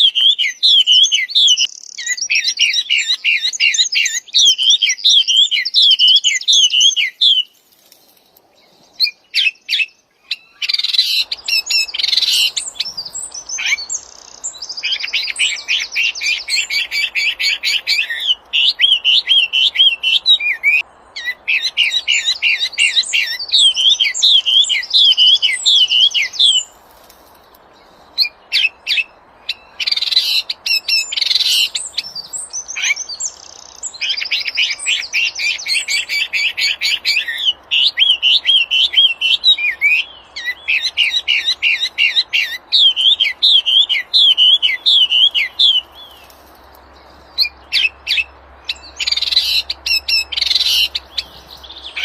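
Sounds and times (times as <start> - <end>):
songbird chirping trills: 0.0 - 52.0.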